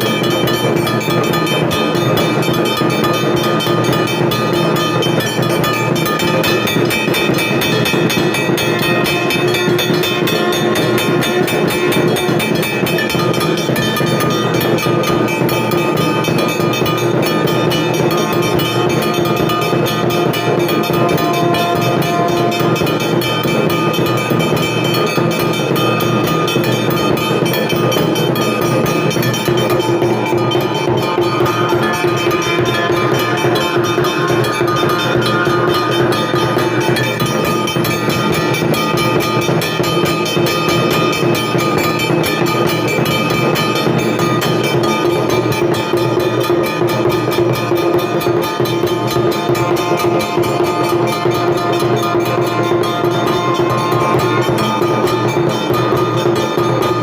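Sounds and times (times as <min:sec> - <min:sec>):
temple bells ringing rapidly: 0:00.0 - 0:57.0.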